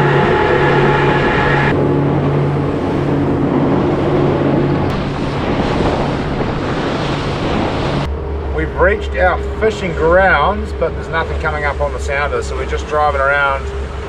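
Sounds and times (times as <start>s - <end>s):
outboard motors running: 0.0s - 14.0s
water rushing: 0.0s - 14.0s
wind noise: 0.0s - 14.0s.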